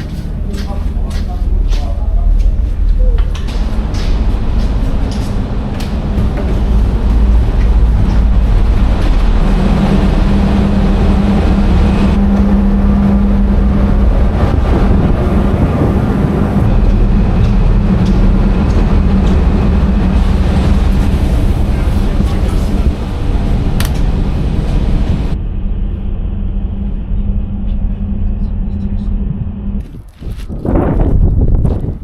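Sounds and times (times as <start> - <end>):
vehicle engine drone: 0.0 - 31.9.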